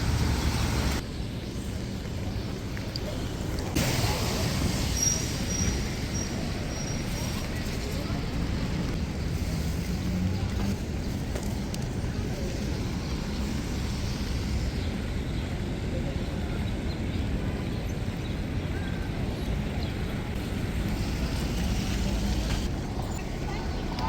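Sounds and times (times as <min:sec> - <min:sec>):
street noise hiss: 0:00.0 - 0:24.0.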